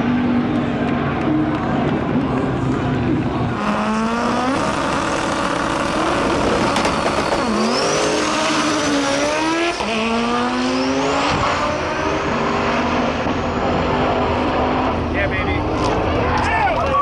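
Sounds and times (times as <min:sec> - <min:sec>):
race car accelerating hard: 0:00.0 - 0:16.2.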